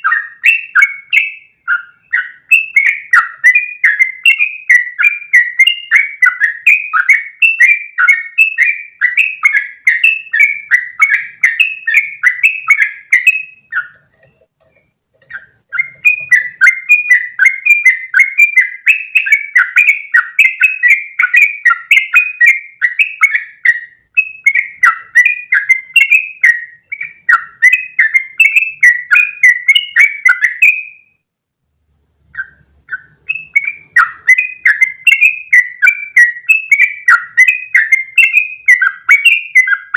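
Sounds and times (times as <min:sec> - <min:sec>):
bird singing chattering notes: 0:00.0 - 0:31.0, 0:32.4 - 0:39.9.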